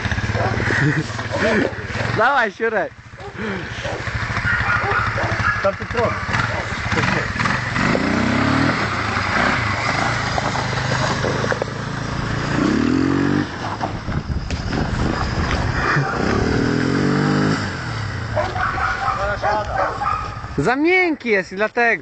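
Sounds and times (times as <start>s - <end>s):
quad bike engine revving: 0.0s - 20.7s.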